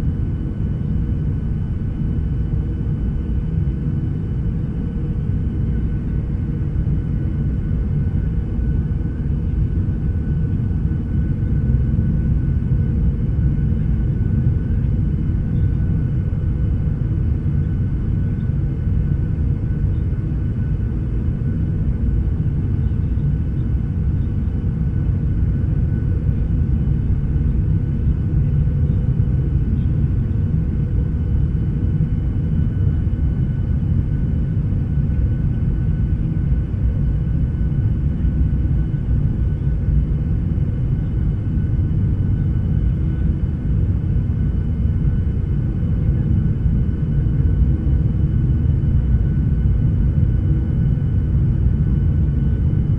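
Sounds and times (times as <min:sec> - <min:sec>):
airliner cabin rumble: 0:00.0 - 0:52.9
faint whining tones: 0:02.0 - 0:52.9.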